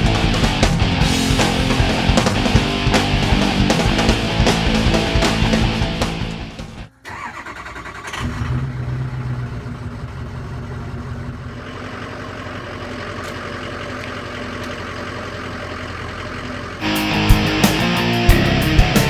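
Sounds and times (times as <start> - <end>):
truck engine starting and idling: 0.0 - 19.0.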